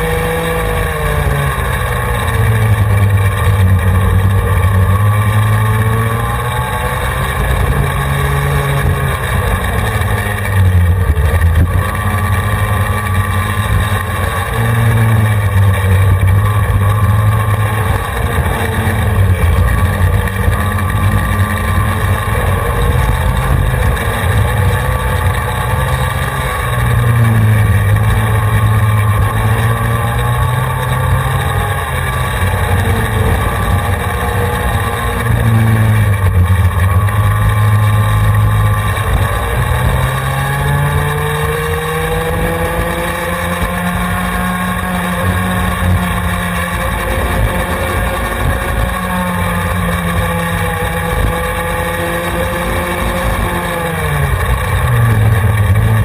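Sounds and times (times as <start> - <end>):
go-kart engine at full throttle: 0.0 - 56.0.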